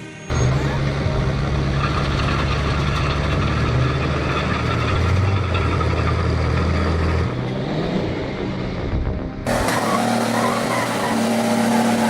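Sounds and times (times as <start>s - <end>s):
road noise: 0.0s - 12.0s
vehicle engine running: 0.3s - 12.0s.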